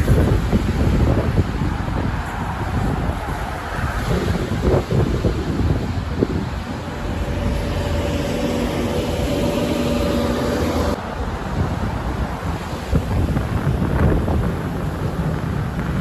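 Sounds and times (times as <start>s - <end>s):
passing vehicle hum: 0.0s - 15.1s
traffic noise: 0.0s - 16.0s
wind buffeting microphone: 0.0s - 16.0s.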